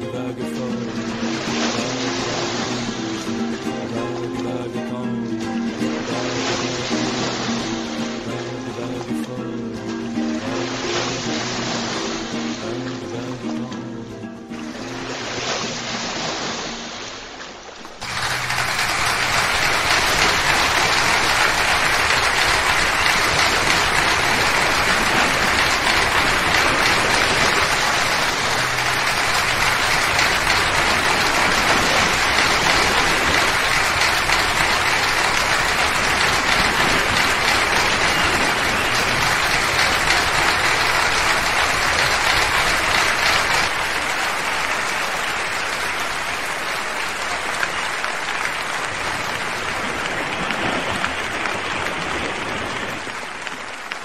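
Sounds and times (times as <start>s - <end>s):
audience applauding: 0.9s - 13.4s, 17.8s - 54.0s.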